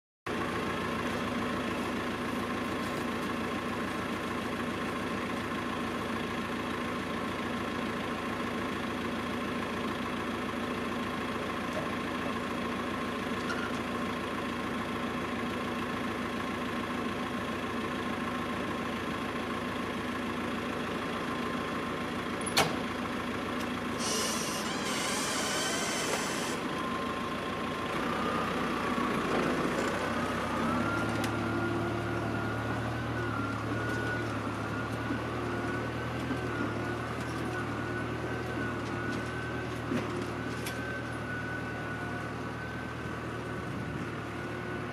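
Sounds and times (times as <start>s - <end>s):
tractor engine idling: 0.3s - 44.9s.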